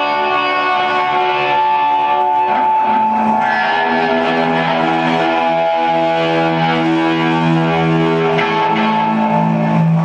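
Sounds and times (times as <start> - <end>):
bowed electric guitar: 0.0 - 10.0.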